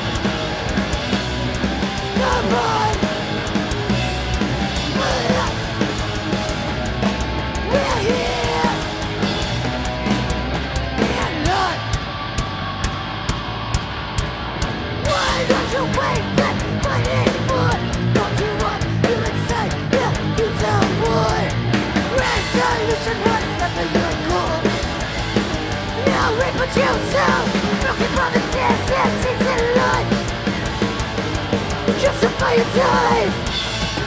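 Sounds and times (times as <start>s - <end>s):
distorted electric guitar: 0.0s - 34.0s
drums: 0.0s - 34.0s.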